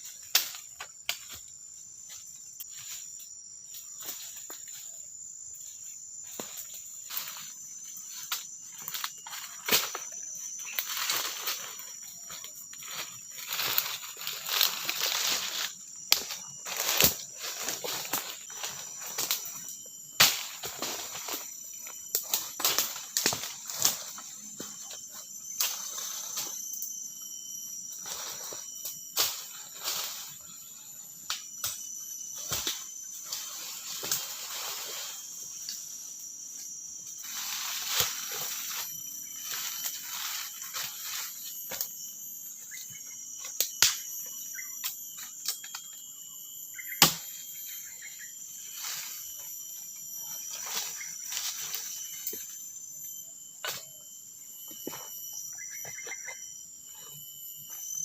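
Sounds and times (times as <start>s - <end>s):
leaves and twigs rustling: 0.0s - 46.0s, 46.7s - 56.3s
insects chirring: 0.0s - 58.0s.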